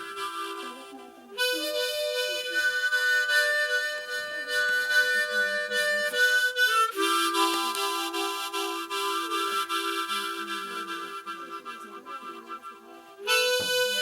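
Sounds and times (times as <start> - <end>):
harmonica playing chords: 0.0 - 14.0.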